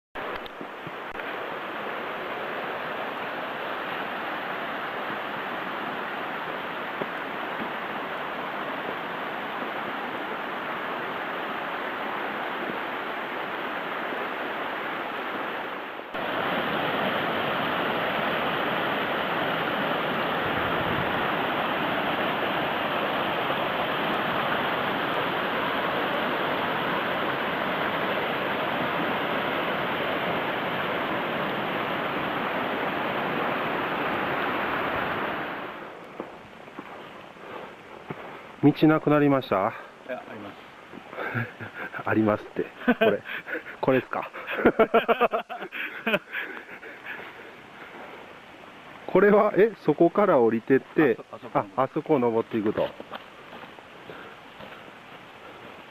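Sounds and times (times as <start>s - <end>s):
mountain stream rushing: 0.2s - 55.9s.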